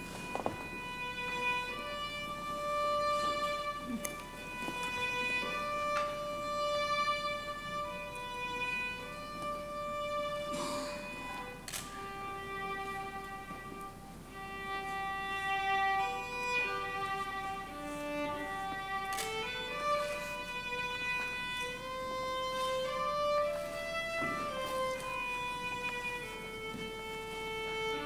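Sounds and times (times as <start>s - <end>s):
bowed string melody: 0.0s - 28.0s.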